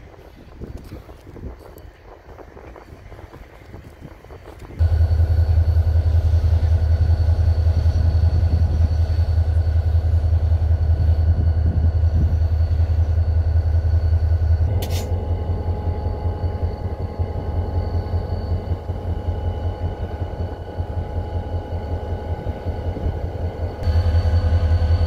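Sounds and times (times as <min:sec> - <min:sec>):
faint steady whine: 0:00.1 - 0:25.0
engine droning: 0:04.8 - 0:25.0.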